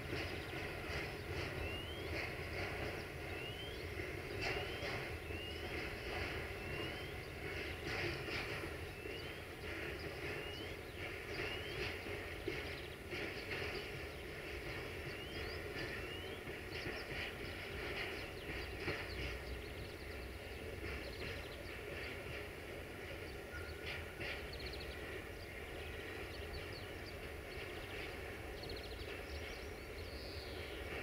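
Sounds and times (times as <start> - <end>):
distant diesel locomotive: 0.0 - 31.0
freight train rumbling on tracks: 0.0 - 31.0
small birds chirping: 0.0 - 31.0.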